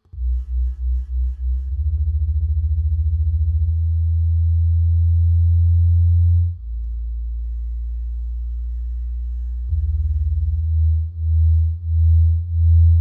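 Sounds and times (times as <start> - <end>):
deep electronic sine-tone drone: 0.0 - 13.0.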